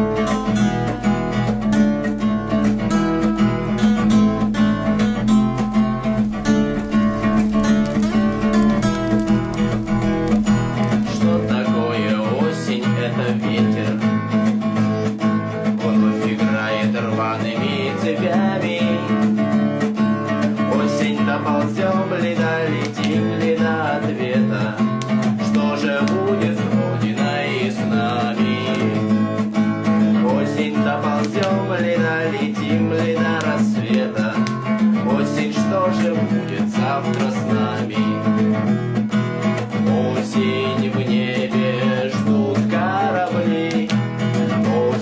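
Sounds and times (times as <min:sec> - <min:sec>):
acoustic guitar chords: 0:00.0 - 0:45.0.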